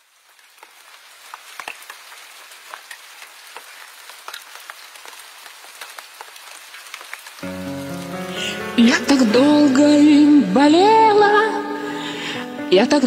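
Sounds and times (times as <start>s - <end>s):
steady rain hiss: 0.0s - 13.0s
raindrops clicking: 0.2s - 10.9s.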